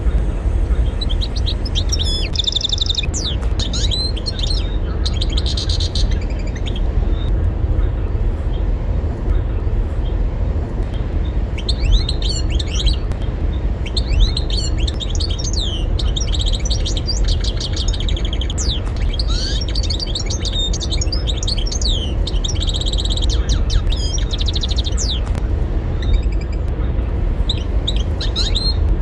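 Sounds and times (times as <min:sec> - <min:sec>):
goldfinch twittering song: 0:00.0 - 0:07.3, 0:10.9 - 0:25.4, 0:26.0 - 0:28.9
steady low rumble: 0:00.0 - 0:29.0.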